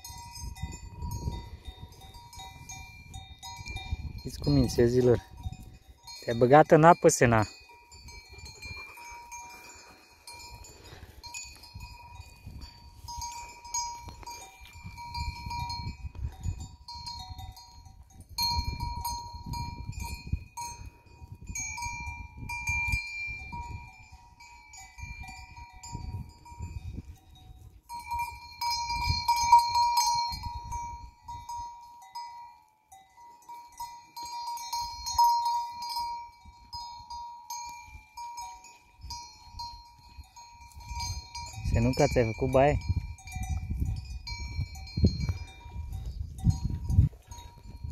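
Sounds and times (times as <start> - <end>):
goat bells clinking: 0.0 - 47.9.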